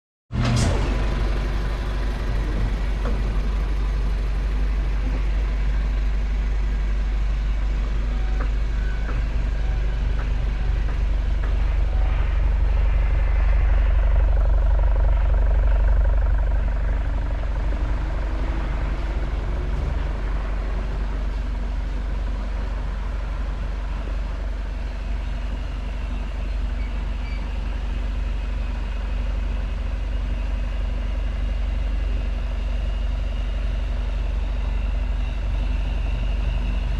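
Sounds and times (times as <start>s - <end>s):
car engine idling: 0.4s - 36.9s.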